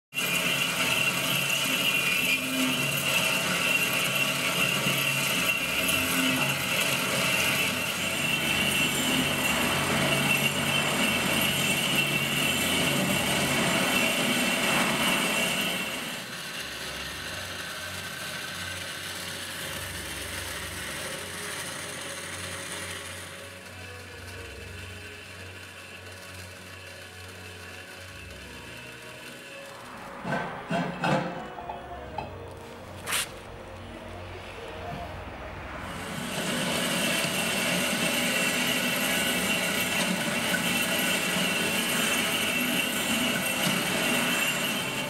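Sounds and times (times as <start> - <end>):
band saw cutting metal: 0.1 - 45.0.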